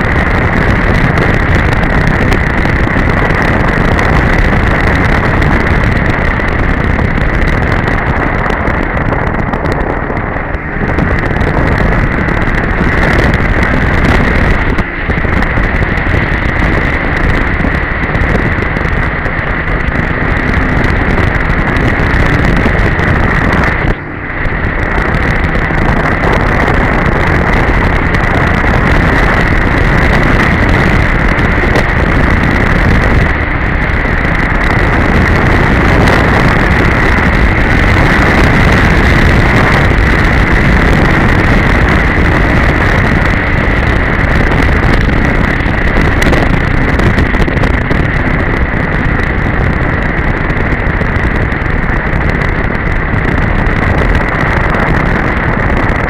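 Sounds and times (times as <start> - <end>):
high whine: 0.0 - 56.0
snowmobile engine running: 0.0 - 56.0
wind buffeting microphone: 0.0 - 56.0.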